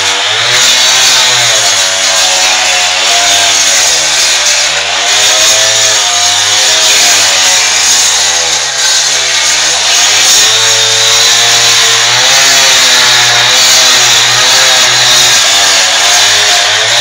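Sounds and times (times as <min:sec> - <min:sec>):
cut-off saw cutting into wall: 0:00.0 - 0:17.0.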